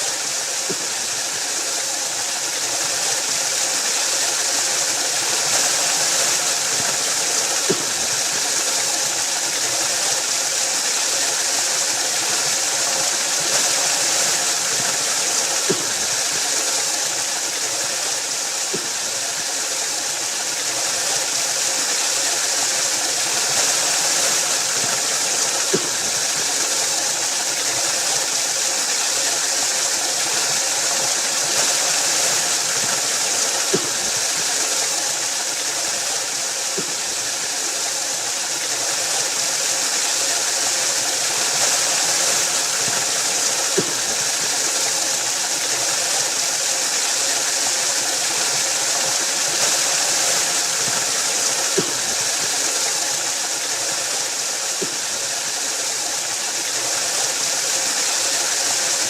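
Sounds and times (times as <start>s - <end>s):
waterfall rushing: 0.0s - 59.0s
water splashes: 0.2s - 59.0s.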